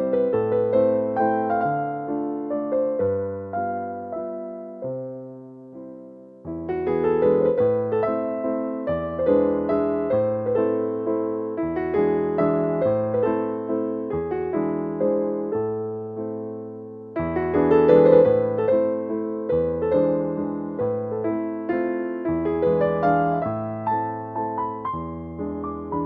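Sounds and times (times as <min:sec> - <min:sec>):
gentle electric piano chords: 0:00.0 - 0:26.0.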